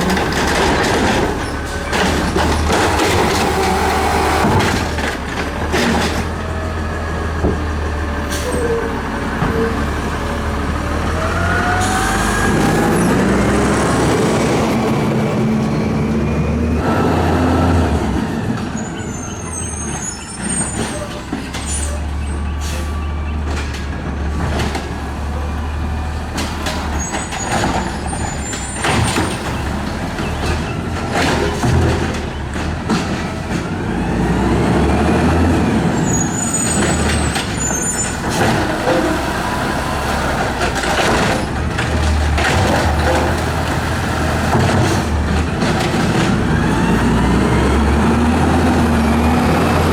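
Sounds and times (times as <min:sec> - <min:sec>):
garbage truck engine rumbling: 0:00.0 - 0:49.9.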